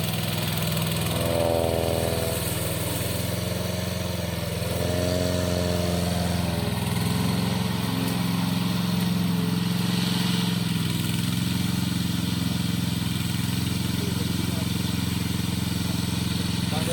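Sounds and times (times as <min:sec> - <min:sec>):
lawn mower engine running: 0:00.0 - 0:16.9.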